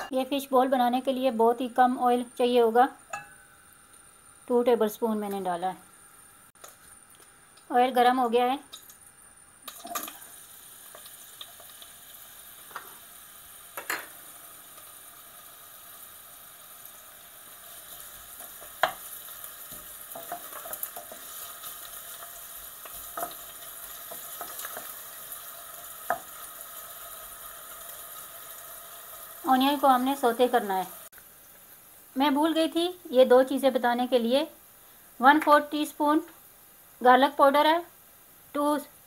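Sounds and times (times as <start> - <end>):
onion sizzling in oil: 0.0 - 39.0.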